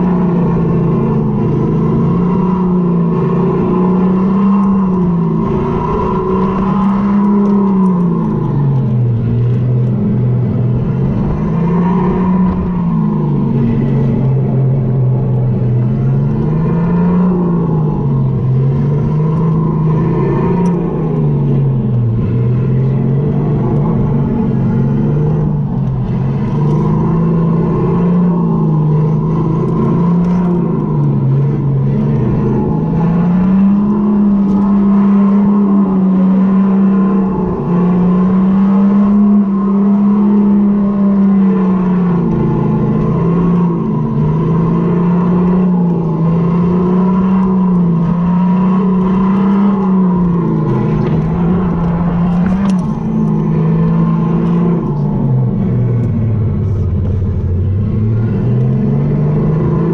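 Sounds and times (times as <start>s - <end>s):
wheel and wind noise: 0.0s - 59.9s.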